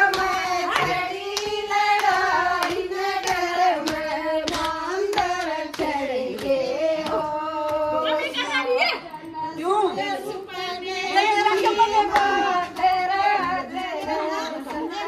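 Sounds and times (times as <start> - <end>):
rhythmic hand claps: 0.0 - 8.4, 10.1 - 15.0
women singing a folk song: 0.0 - 15.0.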